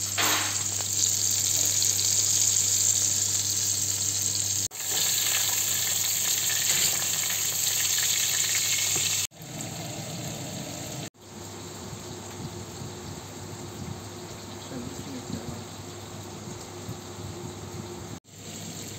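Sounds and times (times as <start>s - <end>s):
meat sizzling in a frying pan: 0.0s - 14.5s, 18.2s - 18.9s.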